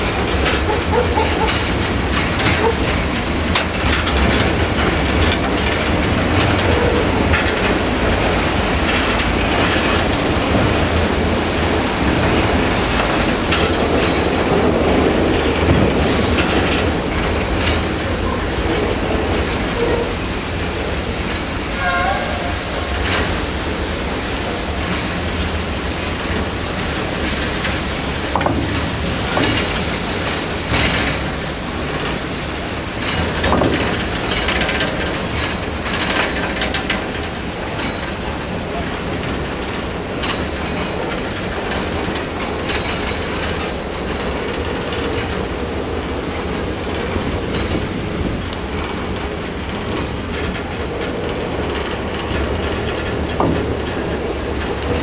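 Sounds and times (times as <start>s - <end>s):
train rumbling on track: 0.0s - 55.0s
wheels clicking over rail joints: 0.0s - 55.0s.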